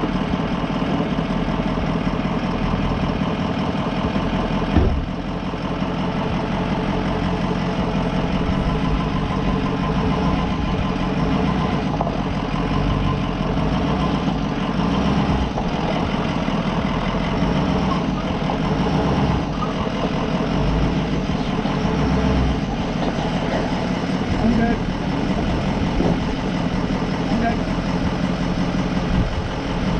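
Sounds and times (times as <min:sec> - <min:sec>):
van engine idling: 0:00.0 - 0:29.9.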